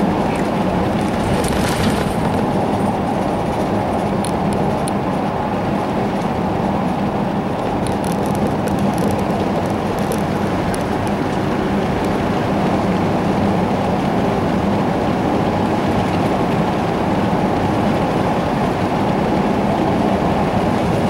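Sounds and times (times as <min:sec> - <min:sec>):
car interior road noise: 0:00.0 - 0:21.0.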